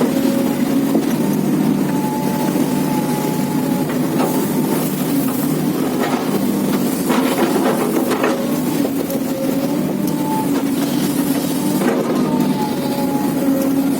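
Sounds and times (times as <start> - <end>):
excavator engine and hydraulics: 0.0 - 13.9
thin steady whine: 0.0 - 13.9.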